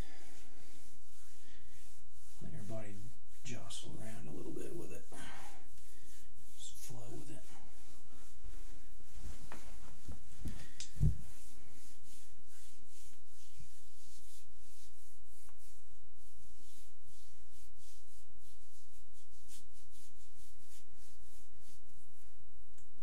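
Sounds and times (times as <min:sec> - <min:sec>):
hand rubbing skin: 0:00.0 - 0:22.7.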